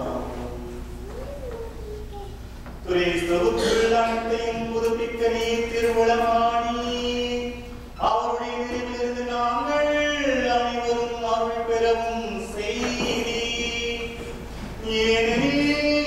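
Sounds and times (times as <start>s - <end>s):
priest chanting: 2.8s - 16.0s.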